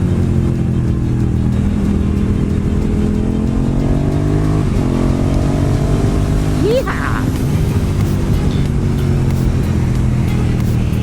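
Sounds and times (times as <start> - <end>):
motorcycle engine pulling: 0.0 - 11.0.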